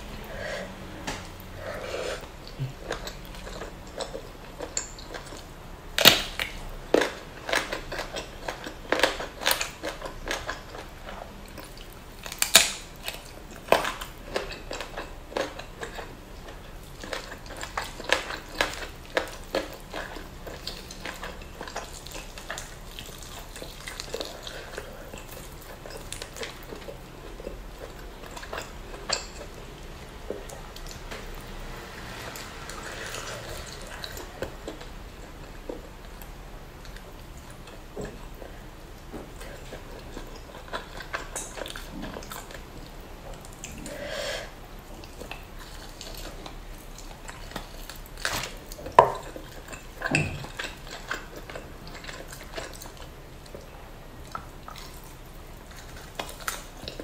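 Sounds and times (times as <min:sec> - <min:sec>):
chewing and mouth sounds: 0:00.0 - 0:57.0.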